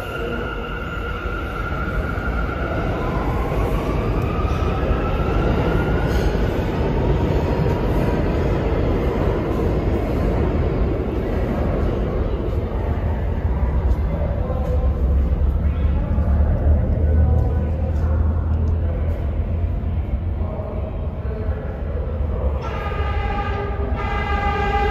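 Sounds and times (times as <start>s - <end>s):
subway train rumbling: 0.0s - 24.9s.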